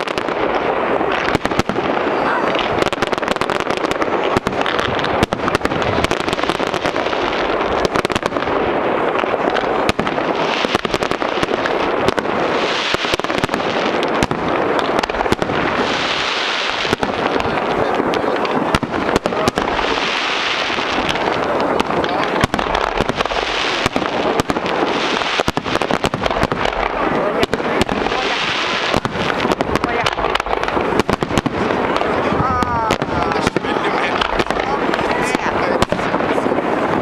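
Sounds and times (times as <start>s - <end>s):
fireworks bursting and crackling: 0.0s - 37.0s
hissing crackle: 0.0s - 37.0s.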